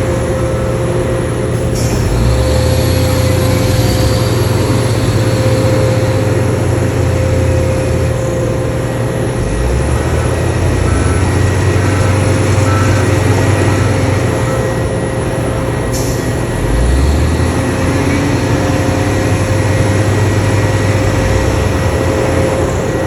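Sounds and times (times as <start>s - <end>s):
constant machine whine: 0.0s - 23.0s
heavy machinery engine drone: 0.0s - 23.0s.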